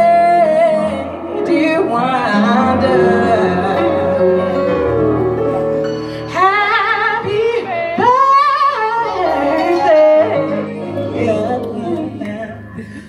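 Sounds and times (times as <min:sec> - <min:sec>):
live band playing: 0:00.0 - 0:13.0
woman singing with vibrato: 0:00.0 - 0:13.0.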